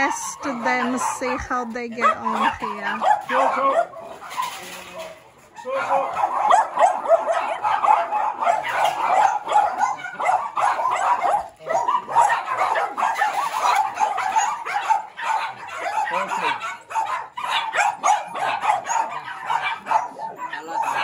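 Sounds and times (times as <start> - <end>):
small dogs barking and yapping: 0.0 - 21.0.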